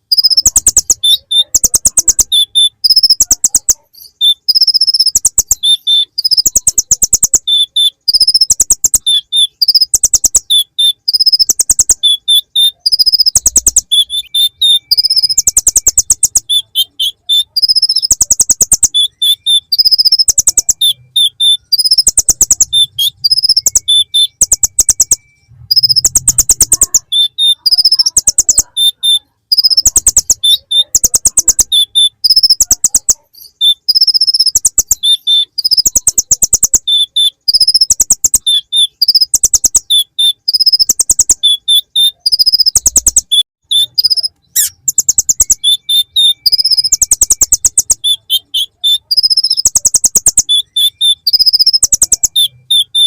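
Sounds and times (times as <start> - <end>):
bird singing high trills and chirps: 0.0 - 53.0.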